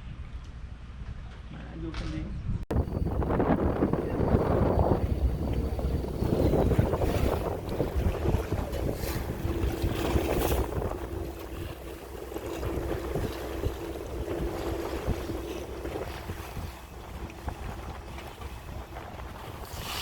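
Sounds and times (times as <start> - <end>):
wind buffeting microphone: 0.9 - 20.0
steady hum: 2.7 - 19.2.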